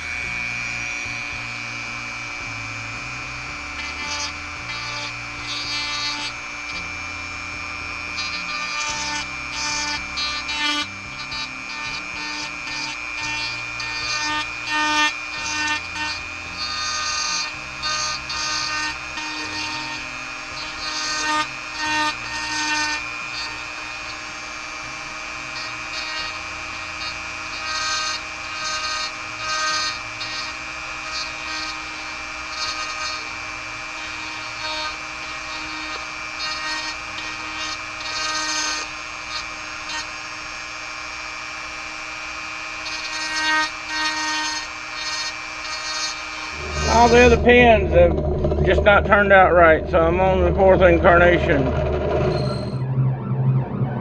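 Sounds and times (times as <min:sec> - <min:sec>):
end mill grinding plastic: 0:00.0 - 0:52.8
rotary tool high whine: 0:00.0 - 0:53.2.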